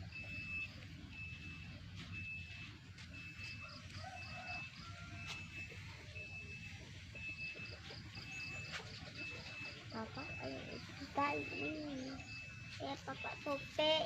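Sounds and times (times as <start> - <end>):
high repeating beep: 0.0 - 14.0.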